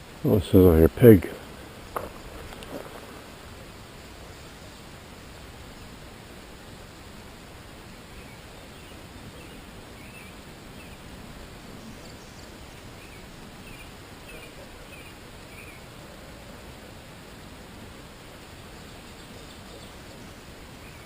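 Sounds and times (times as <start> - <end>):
steady recording hiss: 0.0 - 21.0.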